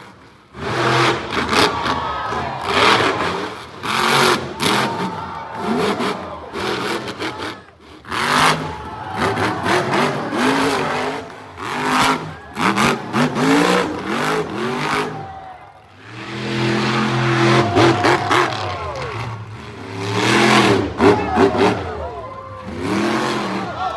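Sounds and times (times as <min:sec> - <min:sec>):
monster truck engine revving: 0:00.0 - 0:23.9.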